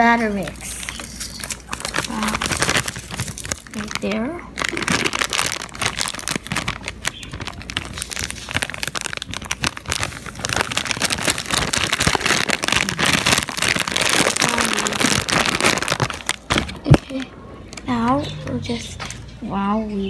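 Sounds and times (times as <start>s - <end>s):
plastic bag crinkling: 0.0s - 17.9s.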